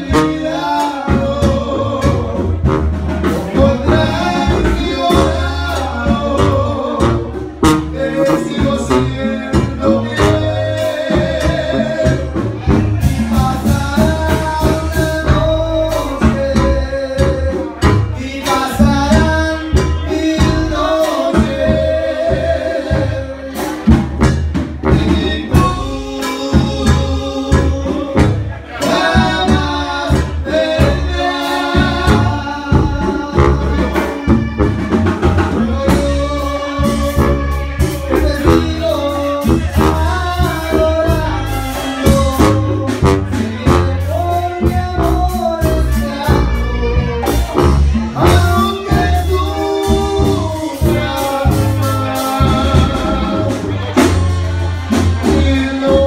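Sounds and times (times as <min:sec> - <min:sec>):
backing music with drums: 0:00.0 - 0:56.0
man singing into a microphone: 0:00.0 - 0:56.0.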